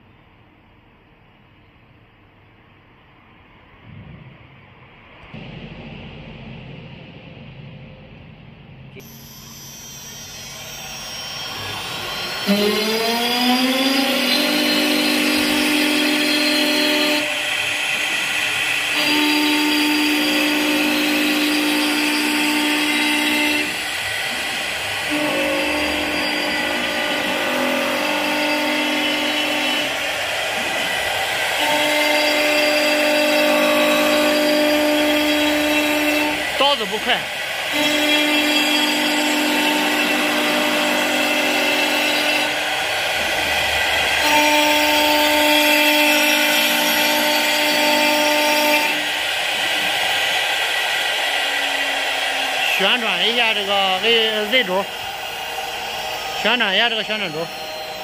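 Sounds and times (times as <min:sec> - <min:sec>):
router spindle whine: 0:09.0 - 0:58.0
wood cutting hiss: 0:09.0 - 0:58.0.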